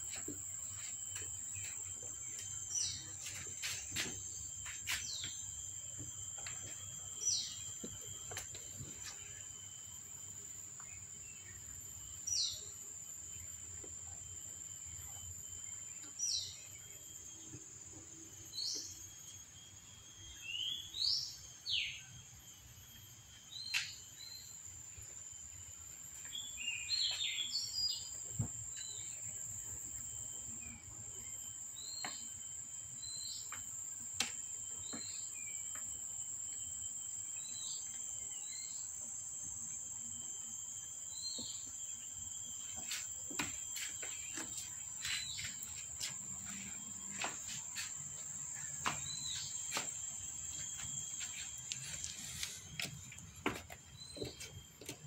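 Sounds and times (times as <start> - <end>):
high insect buzz: 0.0 - 55.0.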